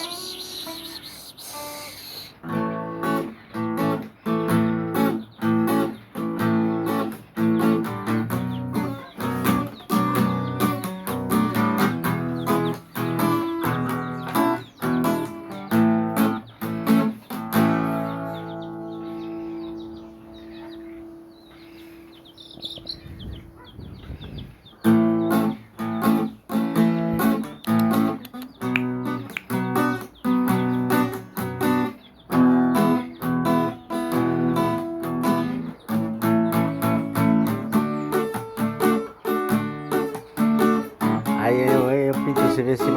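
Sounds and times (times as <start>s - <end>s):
acoustic guitar strumming: 0.0s - 23.0s, 24.8s - 42.9s.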